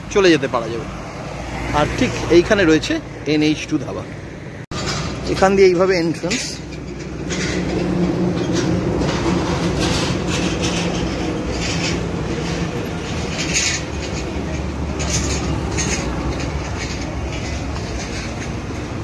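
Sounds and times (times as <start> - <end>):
engine hum: 0.0 - 19.0
road traffic rumble: 0.0 - 19.0.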